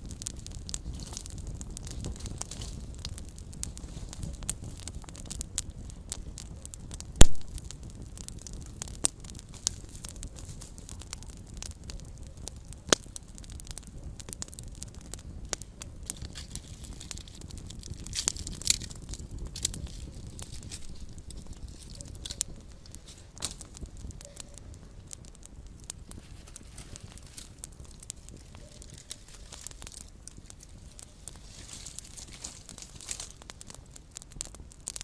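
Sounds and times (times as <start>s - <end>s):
flames rumbling: 0.0s - 35.0s
wood fire pops and snaps: 0.0s - 35.0s.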